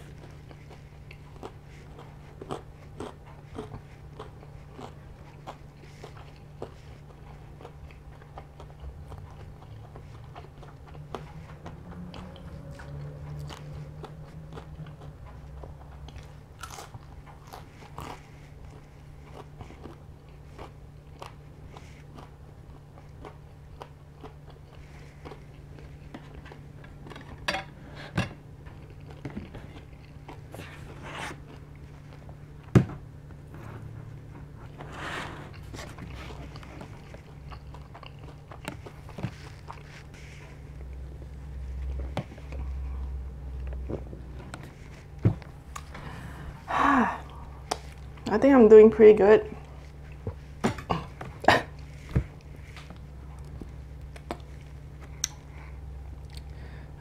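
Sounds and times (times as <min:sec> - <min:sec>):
chewing and crunching fried chicken: 0:00.0 - 0:57.0.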